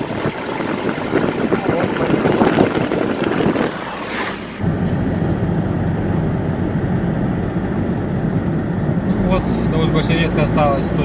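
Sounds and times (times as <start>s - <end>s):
car road rumble: 0.0s - 11.0s.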